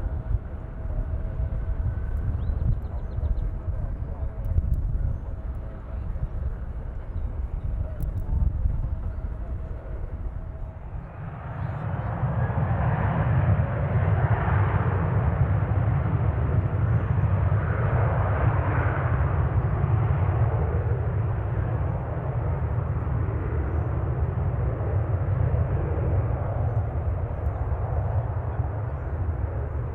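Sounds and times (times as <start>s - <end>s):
jet airliner engines roaring: 0.0s - 29.9s
steady low rumble: 0.0s - 29.9s.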